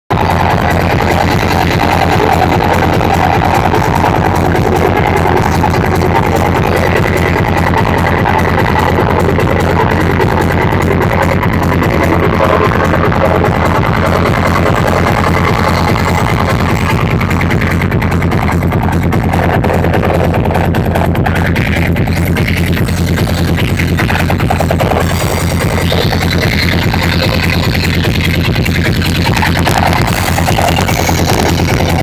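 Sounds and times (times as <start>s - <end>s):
electronic dance music: 0.1s - 32.0s.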